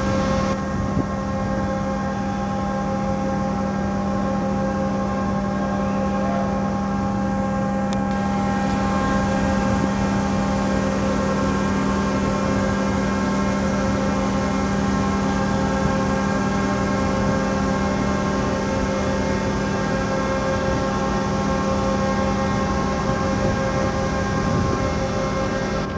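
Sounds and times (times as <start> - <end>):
ferry machinery droning: 0.0 - 25.9.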